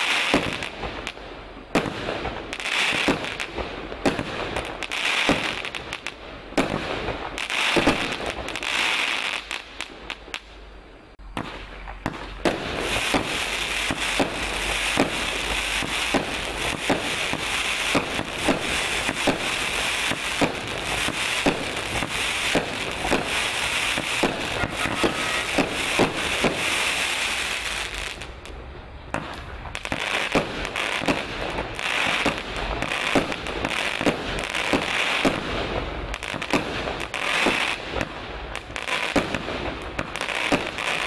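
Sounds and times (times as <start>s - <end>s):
firework shots launching: 0.0s - 10.5s, 11.3s - 28.4s, 29.1s - 41.0s
crackling firework stars: 0.0s - 41.0s.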